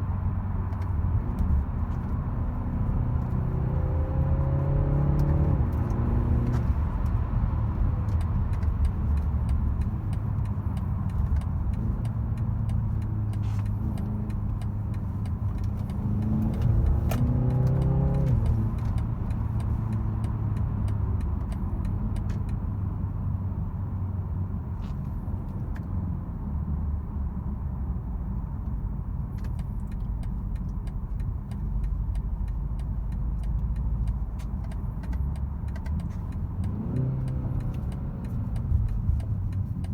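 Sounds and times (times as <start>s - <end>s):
car engine driving: 0.0s - 39.9s
road noise: 0.0s - 39.9s.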